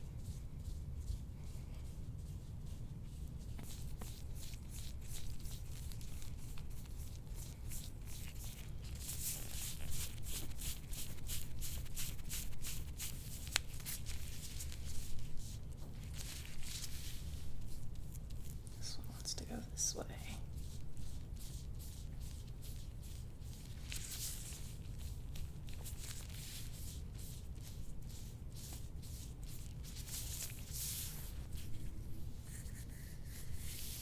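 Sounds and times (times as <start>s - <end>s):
low steady room hum: 0.0s - 34.0s
rubbing strokes over skin: 0.0s - 34.0s.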